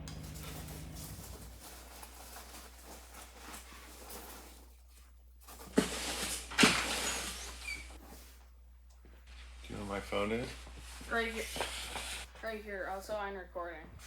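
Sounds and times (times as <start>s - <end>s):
rustling: 0.0s - 13.2s.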